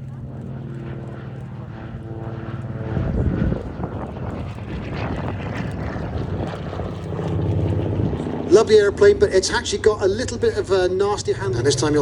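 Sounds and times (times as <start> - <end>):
aircraft engines flying past: 0.0 - 12.0.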